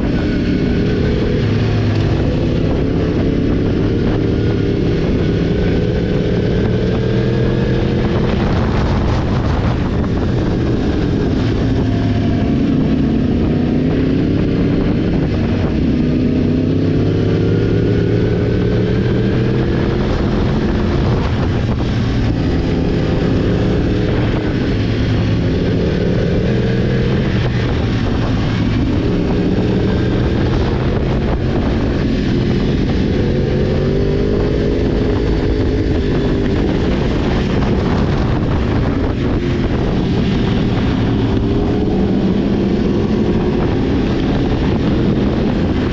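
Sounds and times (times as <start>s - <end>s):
motorcycle engine accelerating: 0.0s - 45.9s
road and wind rush: 0.0s - 45.9s.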